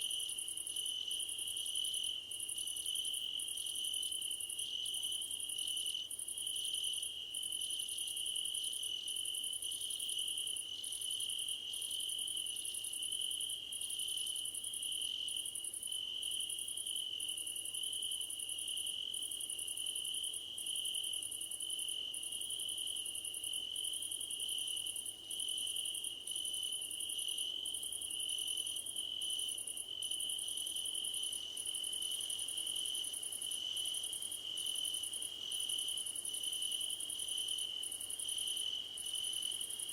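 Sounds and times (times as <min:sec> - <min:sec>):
high-pitched cricket chirping: 0:00.0 - 0:39.9.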